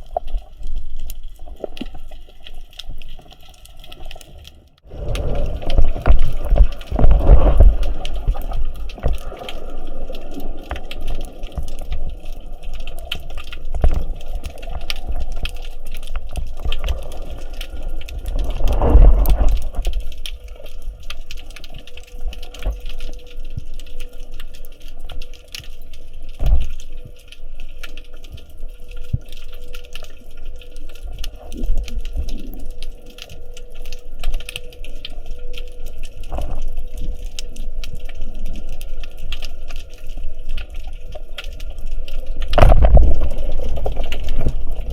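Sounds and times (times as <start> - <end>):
water sloshing and bubbling: 0.0 - 44.9.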